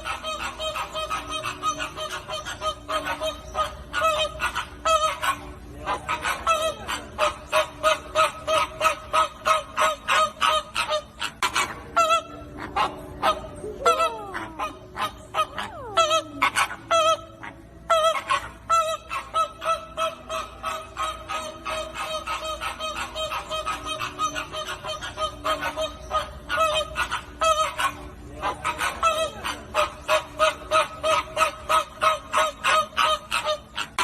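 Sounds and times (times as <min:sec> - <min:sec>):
flamingos honking: 0:00.0 - 0:34.0.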